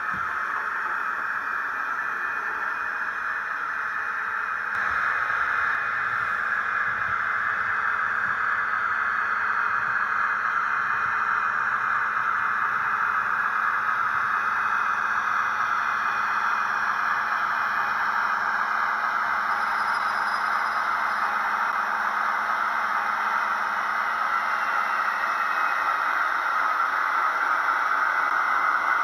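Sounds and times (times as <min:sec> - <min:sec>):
model train hissing hum: 0:00.0 - 0:29.0.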